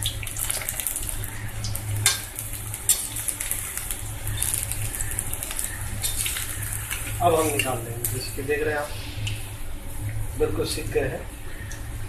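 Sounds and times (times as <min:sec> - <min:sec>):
deep-frying sizzle and crackle: 0:00.0 - 0:12.0.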